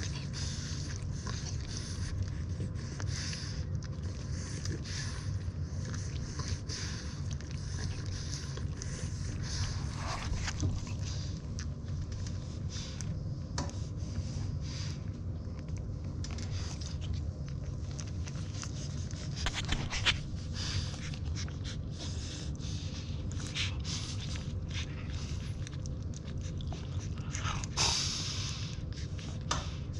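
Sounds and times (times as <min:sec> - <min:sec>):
puppies suckling: 0:00.0 - 0:29.9
steady low rumble: 0:00.0 - 0:29.9.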